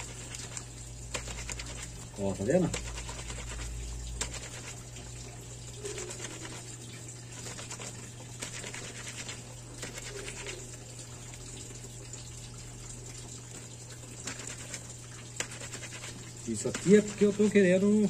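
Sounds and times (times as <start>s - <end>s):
wet soapy cloth rubbing: 0.0s - 18.0s.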